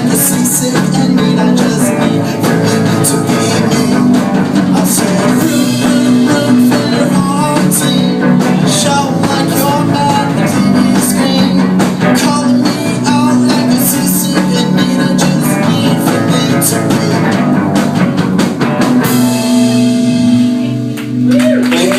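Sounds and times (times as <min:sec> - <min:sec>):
drums: 0:00.0 - 0:21.9
electric guitar: 0:00.0 - 0:21.9
rock band playing: 0:00.0 - 0:21.9.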